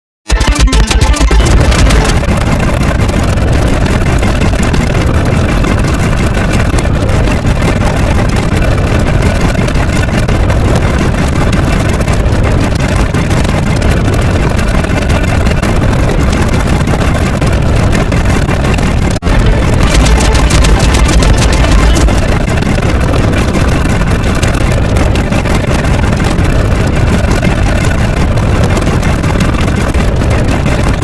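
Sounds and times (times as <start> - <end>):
loud steady engine-like noise: 0.3 - 31.0.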